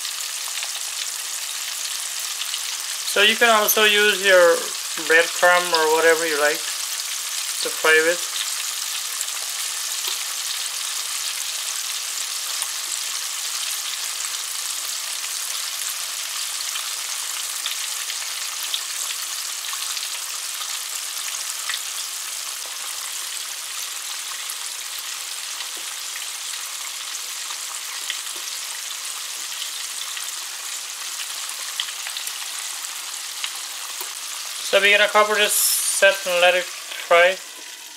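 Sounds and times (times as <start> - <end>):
chicken deep-frying in oil: 0.0 - 37.9.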